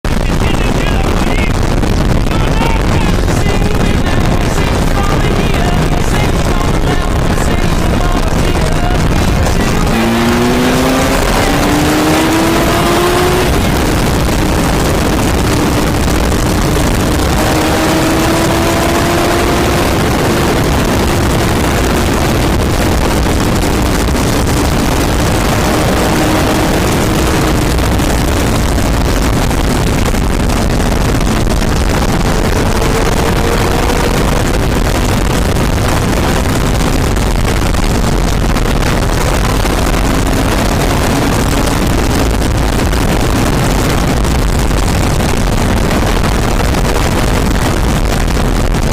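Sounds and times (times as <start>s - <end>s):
loud steady rush of noise: 0.0s - 48.9s
motorcycle engine running: 0.0s - 48.9s.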